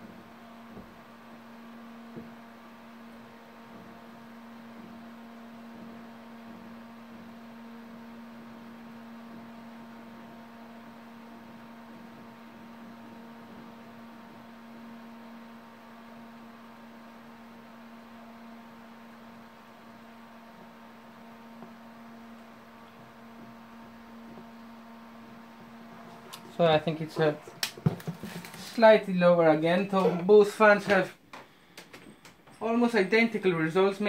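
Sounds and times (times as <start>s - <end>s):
cooling fan humming: 0.0s - 34.0s.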